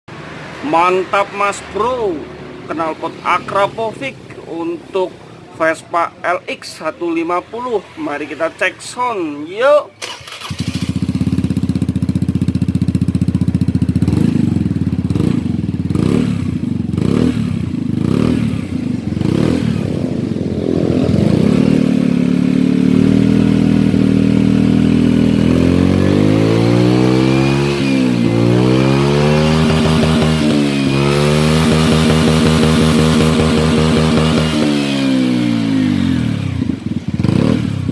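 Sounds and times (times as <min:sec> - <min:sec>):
scooter engine revving: 0:07.2 - 0:37.9.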